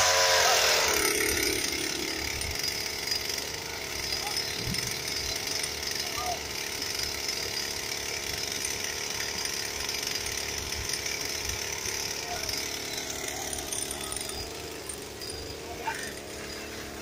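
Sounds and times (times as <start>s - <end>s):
small two-stroke engine running: 0.0s - 17.0s.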